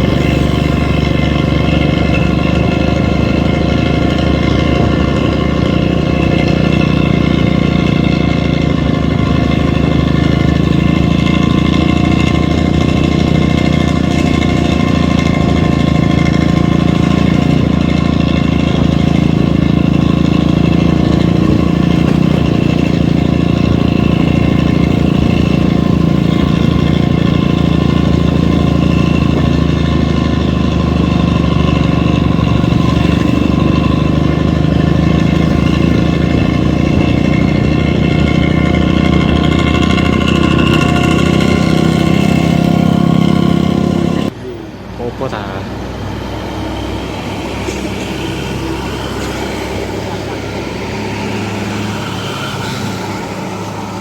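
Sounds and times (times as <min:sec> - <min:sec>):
large diesel engine drone: 0:00.0 - 0:54.0.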